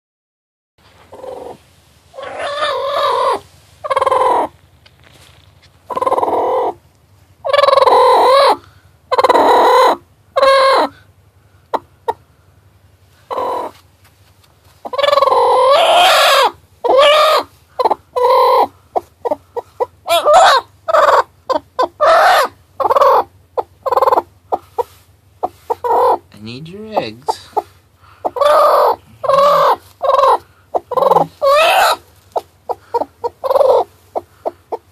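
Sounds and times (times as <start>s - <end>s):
hen calling: 1.0s - 4.6s, 5.8s - 6.8s, 7.4s - 11.1s, 13.2s - 13.8s, 14.8s - 34.9s
hen clucking: 1.0s - 4.7s, 5.6s - 11.0s, 11.6s - 13.8s, 14.7s - 34.9s.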